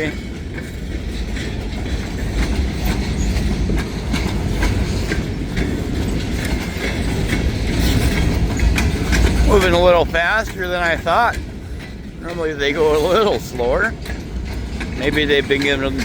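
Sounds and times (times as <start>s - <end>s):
freight train rumbling past: 0.0s - 16.0s
wheels clicking over rail joints: 0.0s - 16.0s.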